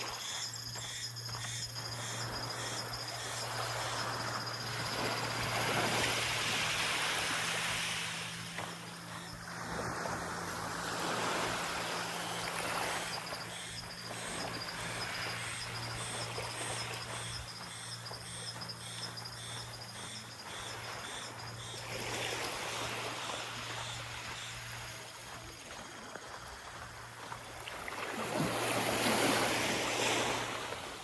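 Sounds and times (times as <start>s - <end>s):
small waves washing on beach: 0.8s - 31.0s.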